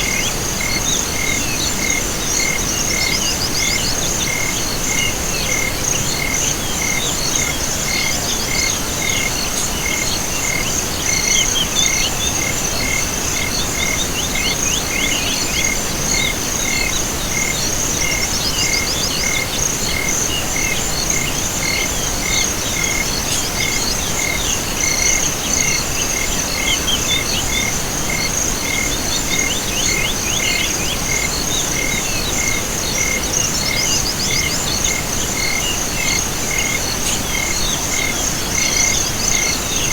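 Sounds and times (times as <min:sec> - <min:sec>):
crickets chirping: 0:00.0 - 0:39.9
fast cricket chirps: 0:00.0 - 0:39.9.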